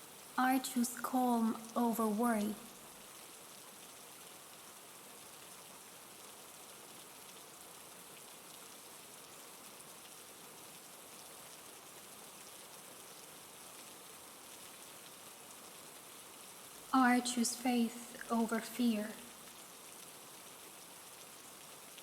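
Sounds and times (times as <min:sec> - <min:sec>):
faint rain falling: 0:00.0 - 0:22.0.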